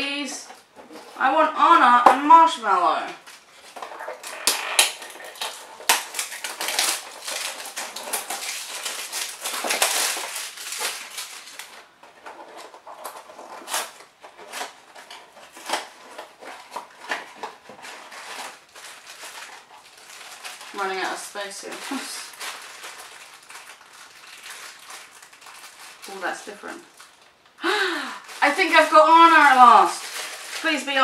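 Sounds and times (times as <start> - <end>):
packaging rustling and crinkling: 3.2 - 31.0.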